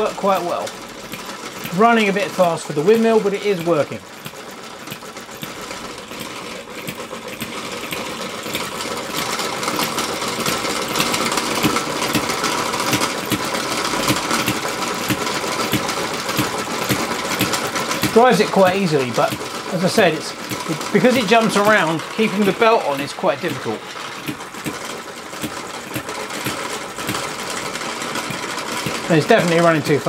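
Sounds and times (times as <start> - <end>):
model engine mechanical clatter: 0.0 - 30.0.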